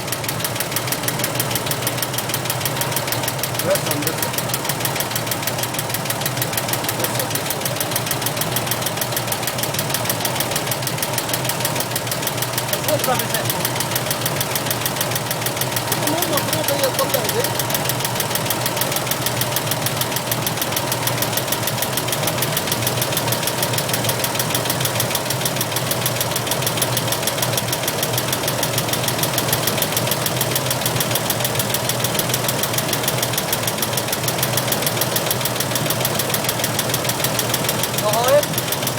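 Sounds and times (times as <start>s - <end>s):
car engine running: 0.0s - 38.9s
fast even engine ticking: 0.0s - 38.9s.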